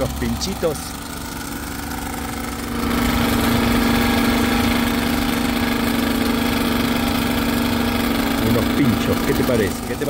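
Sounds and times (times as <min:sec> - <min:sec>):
petrol generator humming: 0:00.0 - 0:10.0.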